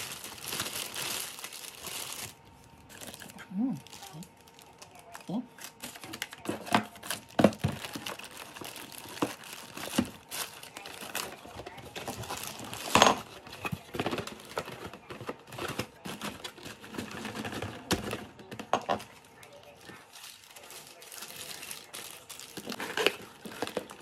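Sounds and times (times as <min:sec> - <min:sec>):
packaging and plastic bags rustling: 0:00.0 - 0:24.0.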